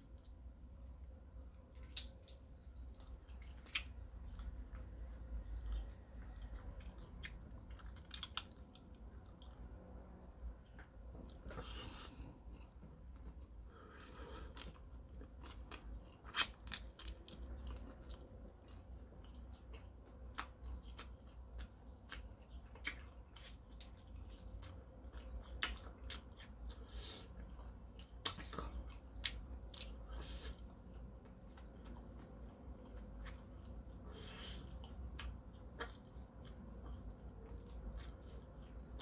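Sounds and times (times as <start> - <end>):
close-up chewing: 0.0 - 39.0.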